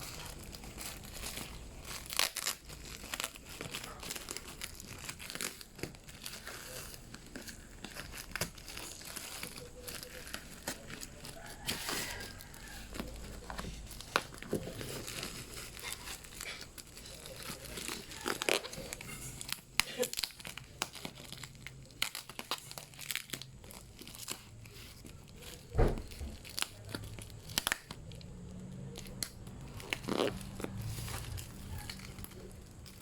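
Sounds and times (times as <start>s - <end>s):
plastic and paper crinkling: 0.0s - 33.0s.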